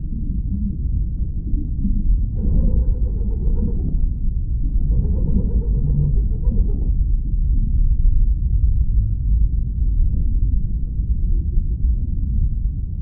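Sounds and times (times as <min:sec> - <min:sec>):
deep ambient drone: 0:00.0 - 0:13.0.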